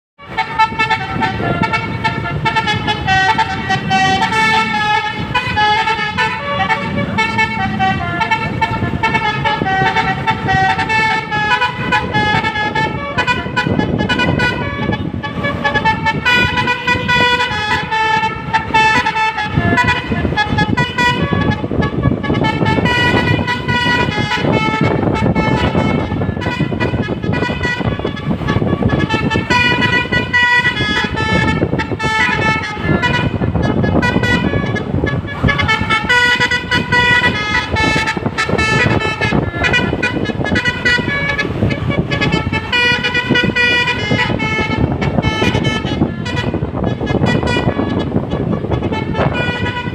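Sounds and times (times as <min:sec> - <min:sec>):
bus engine rumble: 0:00.2 - 0:49.9
bus horn playing a melody: 0:00.2 - 0:49.9.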